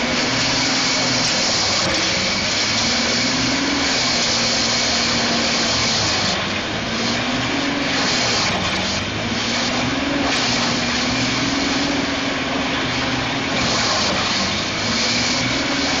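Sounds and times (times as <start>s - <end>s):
grinder engine hum: 0.0s - 16.0s.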